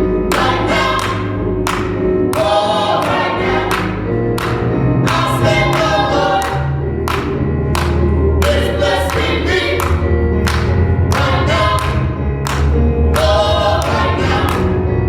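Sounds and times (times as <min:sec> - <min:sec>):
gospel choir singing: 0:00.0 - 0:15.0
low bass line: 0:00.0 - 0:15.0.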